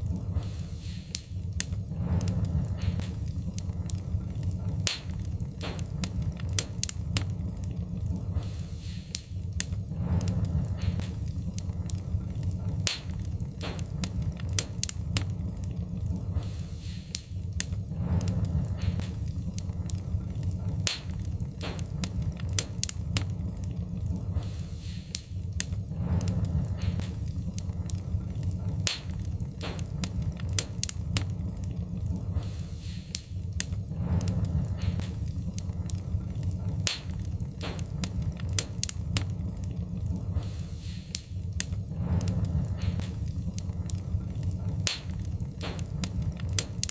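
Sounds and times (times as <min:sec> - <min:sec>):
fire popping and snapping: 0:00.0 - 0:46.9
wood fire crackling: 0:00.0 - 0:46.9.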